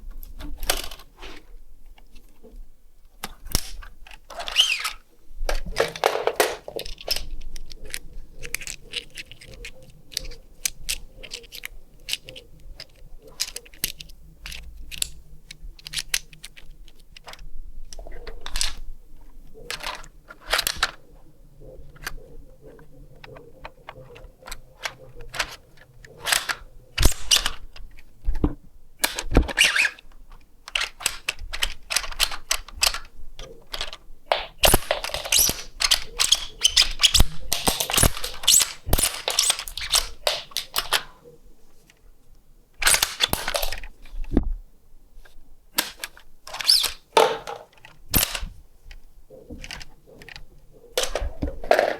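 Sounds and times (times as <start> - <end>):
plastic mechanism clicking and clattering: 0.0 - 1.2, 1.8 - 44.6, 45.2 - 51.9.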